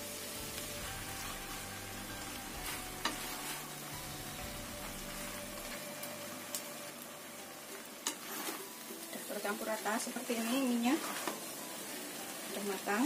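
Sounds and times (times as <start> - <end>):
noodles sizzling in a wok: 0.0 - 13.0.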